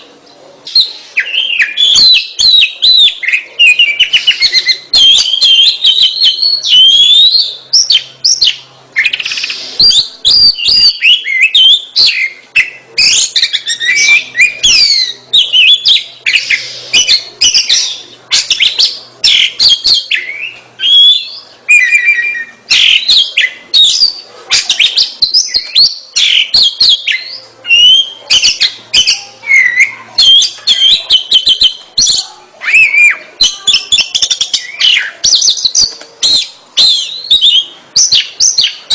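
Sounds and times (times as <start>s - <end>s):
songbird whistling song: 0.6s - 38.9s.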